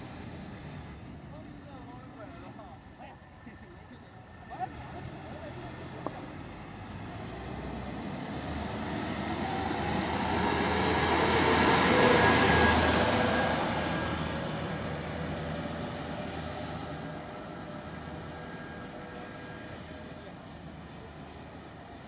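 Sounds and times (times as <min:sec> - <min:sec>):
combine harvester driving past: 0:00.0 - 0:02.9, 0:03.8 - 0:22.0.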